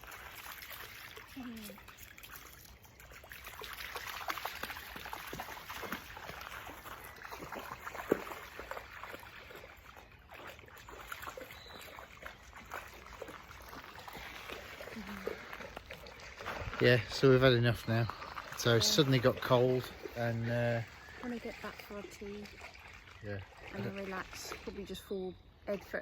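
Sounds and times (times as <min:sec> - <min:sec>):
water trickling in a stream: 0:00.0 - 0:26.0.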